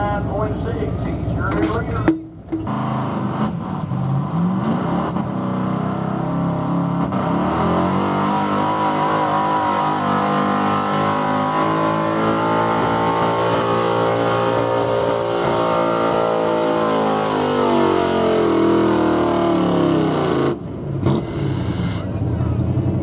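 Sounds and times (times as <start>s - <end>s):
truck engine under full load: 0.0s - 23.0s.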